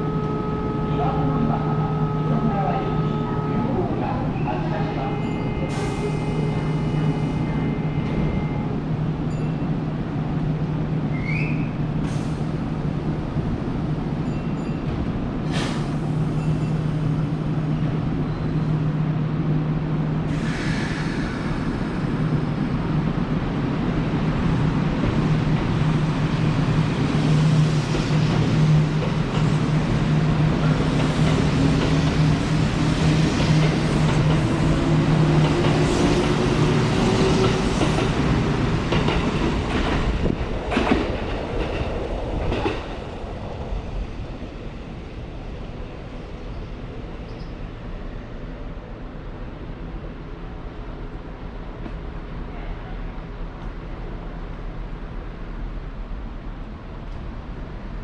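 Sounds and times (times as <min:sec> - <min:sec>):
train humming: 0:00.0 - 0:58.0.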